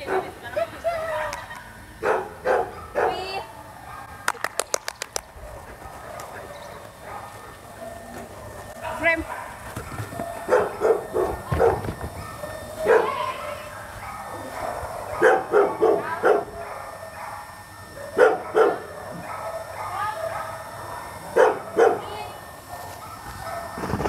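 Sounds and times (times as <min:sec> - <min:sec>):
dog barking: 0:00.0 - 0:00.4, 0:02.0 - 0:04.5, 0:05.4 - 0:23.9.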